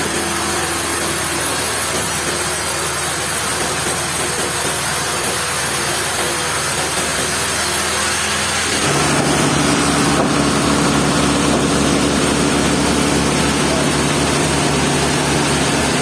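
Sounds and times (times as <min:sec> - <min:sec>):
sawmill machinery humming: 0:00.0 - 0:16.0.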